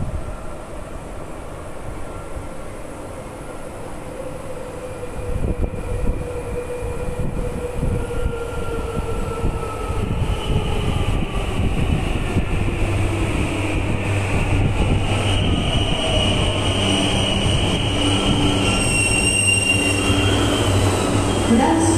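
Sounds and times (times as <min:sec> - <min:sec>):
subway train rumble: 0:00.0 - 0:21.9.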